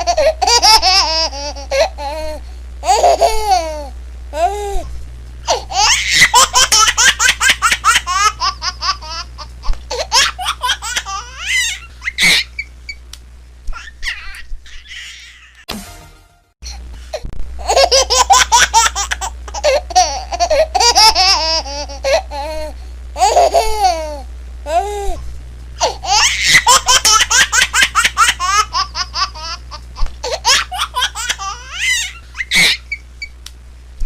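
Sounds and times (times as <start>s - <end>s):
baby laughing: 0.0s - 4.5s, 5.5s - 12.7s, 13.7s - 15.7s, 17.6s - 24.8s, 25.8s - 33.0s
low steady hum: 0.0s - 34.0s.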